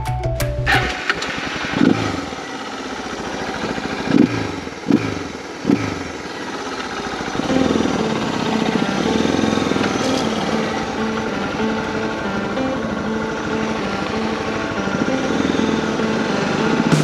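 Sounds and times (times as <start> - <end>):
motorcycle engine revving: 0.7 - 17.0.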